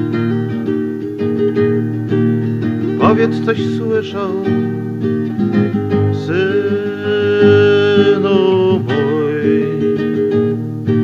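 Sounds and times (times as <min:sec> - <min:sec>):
acoustic guitar: 0:00.0 - 0:11.0.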